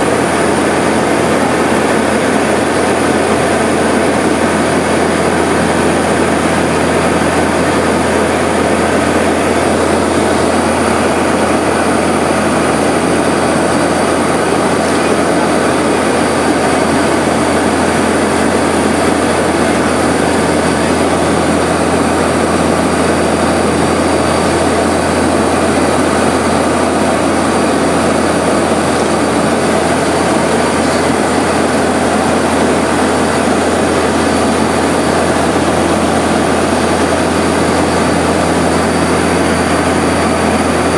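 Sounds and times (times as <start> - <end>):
propeller engines droning: 0.0 - 40.9.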